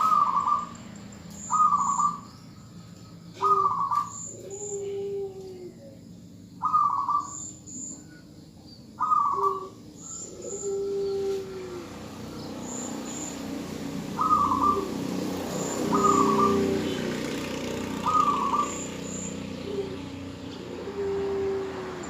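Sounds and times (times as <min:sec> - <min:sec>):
dove rolling calls: 0:00.0 - 0:02.4, 0:03.3 - 0:08.0, 0:08.9 - 0:22.0.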